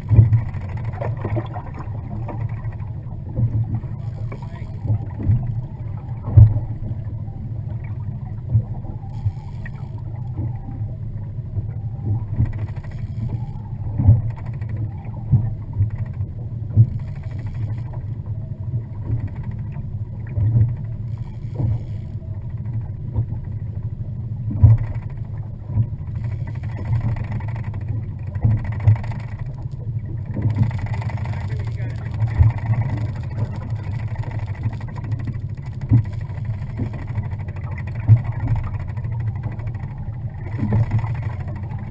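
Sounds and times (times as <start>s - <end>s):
boat engine drone: 0.0s - 41.9s.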